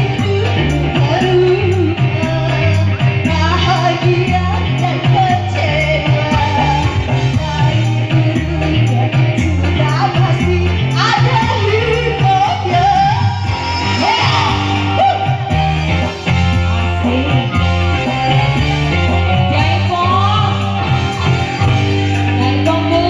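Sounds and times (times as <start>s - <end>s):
amplified band music: 0.0s - 23.0s
hoarse person singing: 0.0s - 23.0s.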